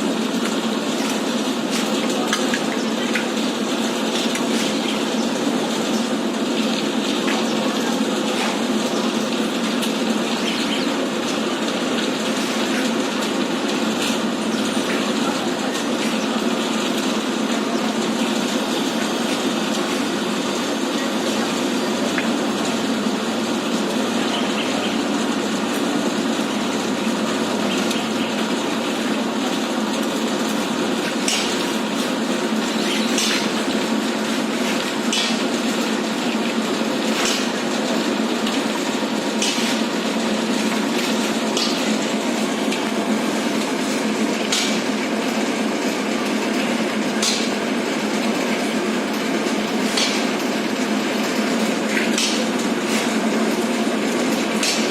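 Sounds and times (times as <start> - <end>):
loud mechanical noise: 0.0 - 54.9.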